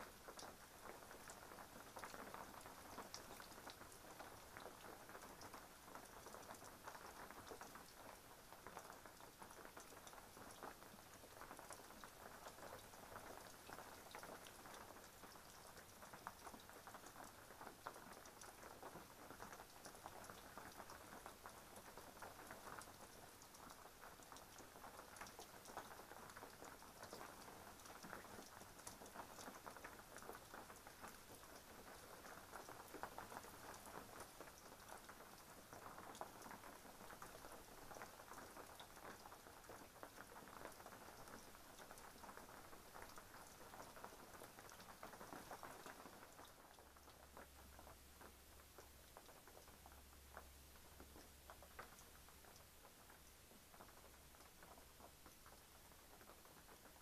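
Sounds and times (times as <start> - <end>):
faint rain pattering: 0.0 - 57.0.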